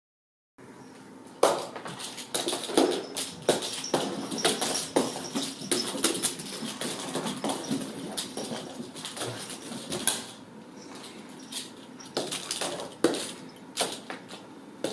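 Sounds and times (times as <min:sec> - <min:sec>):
faint hum: 0:00.6 - 0:14.9
kittens running on wooden stairs: 0:01.4 - 0:10.4, 0:11.5 - 0:14.9.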